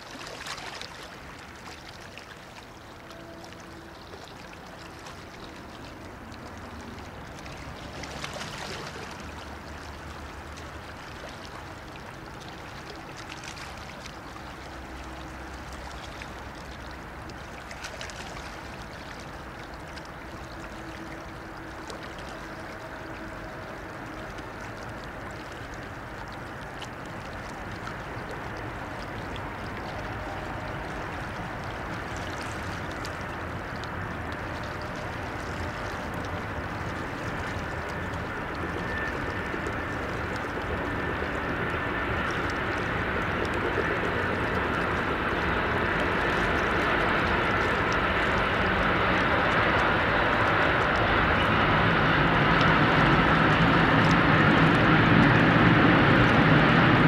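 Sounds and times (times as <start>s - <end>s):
faint steady hums: 0.0s - 57.0s
river water rushing: 0.0s - 57.0s
wind: 0.0s - 57.0s.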